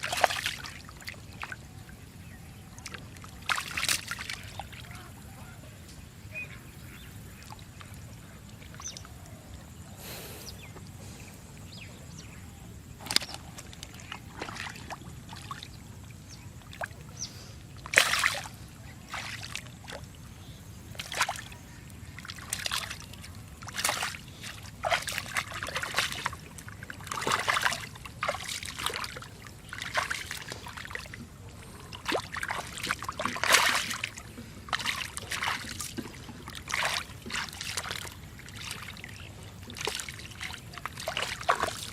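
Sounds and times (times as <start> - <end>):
splashing in muddy water: 0.0 - 5.5, 6.3 - 41.9.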